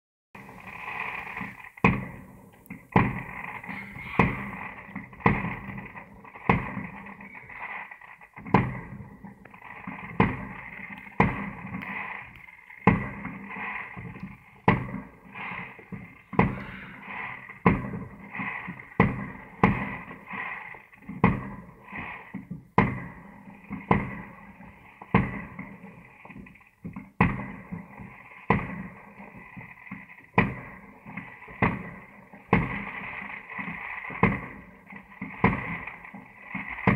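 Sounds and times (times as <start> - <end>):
fireworks bangs: 0.4 - 36.9.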